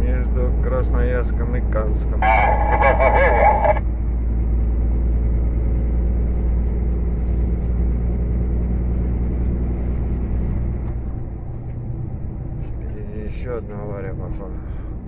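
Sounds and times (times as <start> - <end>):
truck engine drone from cab: 0.0 - 15.0
road noise: 2.0 - 15.0.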